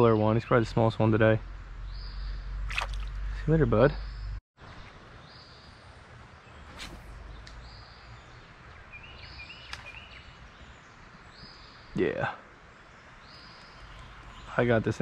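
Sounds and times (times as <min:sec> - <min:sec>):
birds calling: 0:00.0 - 0:15.0
bird chirps: 0:01.8 - 0:12.0, 0:12.7 - 0:15.0.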